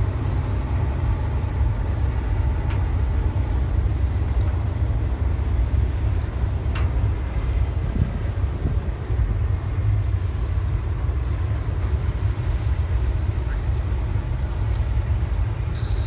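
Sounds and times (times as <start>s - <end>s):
freight train rumbling past: 0.0s - 16.0s
wind buffeting microphone: 0.0s - 16.0s.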